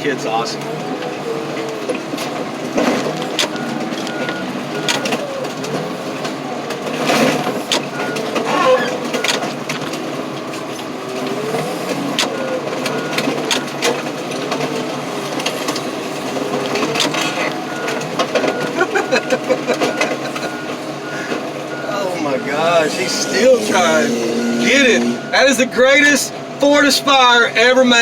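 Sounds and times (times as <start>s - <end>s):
car engine revving hard: 0.0s - 27.8s.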